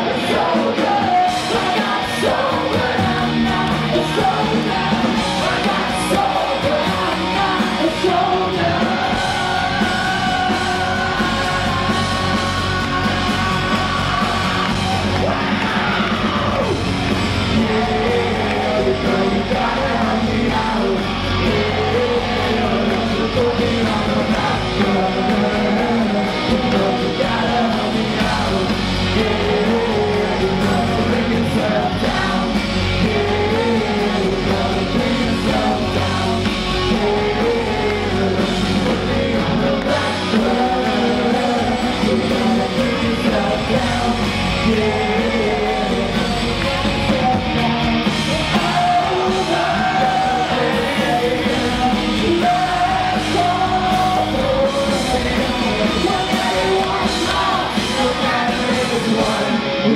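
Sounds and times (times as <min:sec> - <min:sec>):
bass guitar: 0:00.0 - 0:59.9
drums: 0:00.0 - 0:59.9
electric guitars: 0:00.0 - 0:59.9
person singing: 0:00.0 - 0:59.9.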